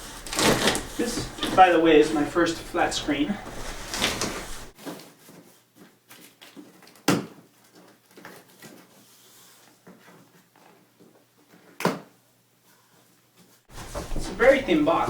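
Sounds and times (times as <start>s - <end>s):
cardboard rustling and scraping: 0.0s - 11.8s, 12.8s - 15.0s.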